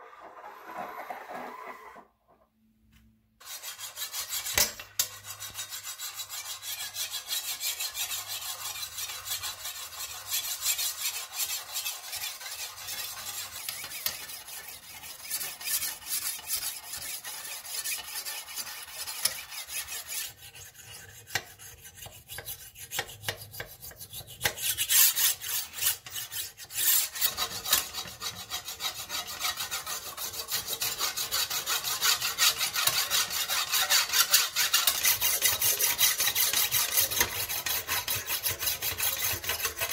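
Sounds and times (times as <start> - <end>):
abrasive block scrubbing steel blade: 3.4 - 39.9.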